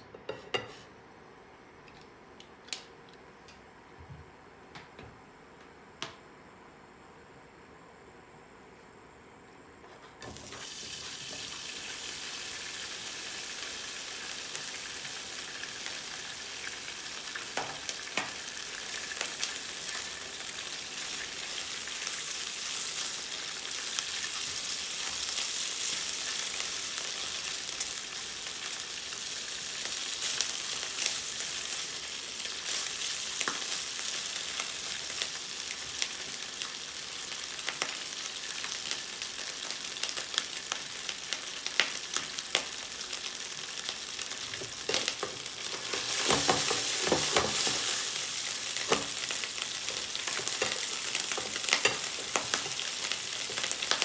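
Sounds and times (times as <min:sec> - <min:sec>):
food sizzling in a pan: 0:10.2 - 0:54.0.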